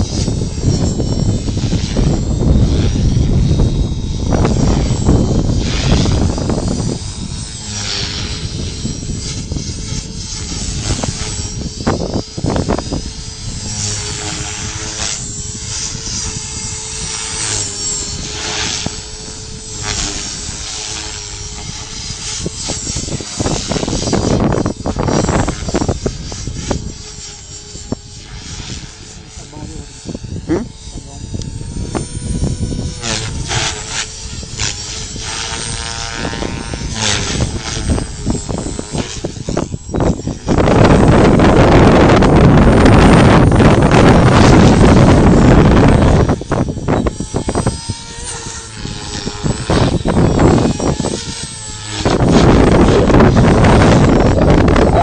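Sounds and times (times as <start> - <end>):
rc helicopter rotor whine: 0.0 - 55.0
wind buffeting microphone: 0.0 - 55.0.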